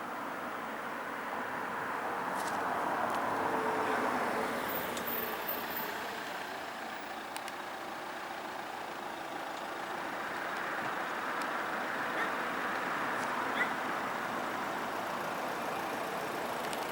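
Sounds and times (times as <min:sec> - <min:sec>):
road traffic passing: 0:00.0 - 0:16.9.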